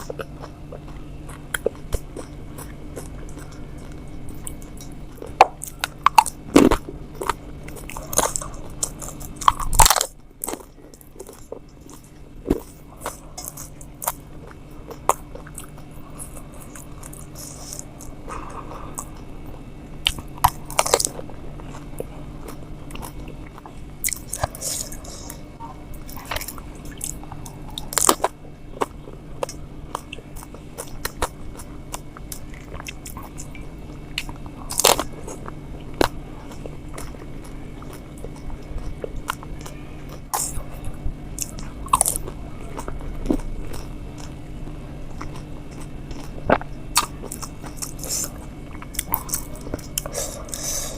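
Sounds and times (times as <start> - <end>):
crunching and chewing food: 0.0 - 50.9.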